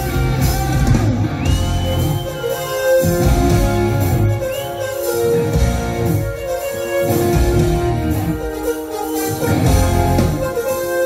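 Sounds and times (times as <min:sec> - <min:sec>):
live hard rock band: 0:00.0 - 0:11.0.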